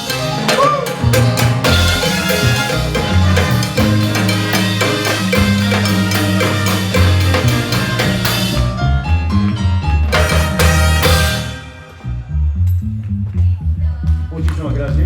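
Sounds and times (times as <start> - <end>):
salsa band playing: 0.0 - 12.6.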